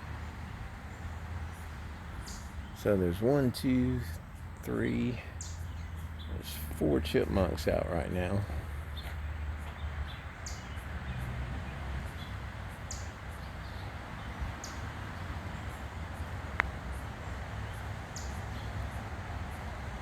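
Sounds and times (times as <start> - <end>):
bird chirping: 0.0 - 20.0
low background rumble: 0.0 - 20.0.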